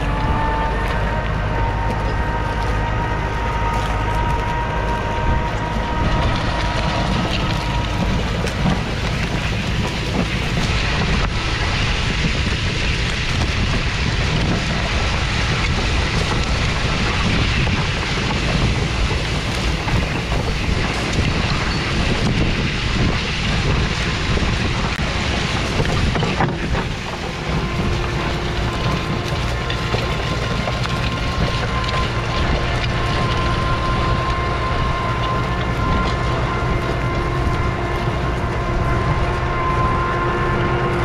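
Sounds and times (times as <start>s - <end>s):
high whine: 0.0s - 41.0s
soil scraping over plough: 0.0s - 41.0s
tractor diesel engine rumble: 0.0s - 41.0s
wind on microphone: 0.0s - 41.0s.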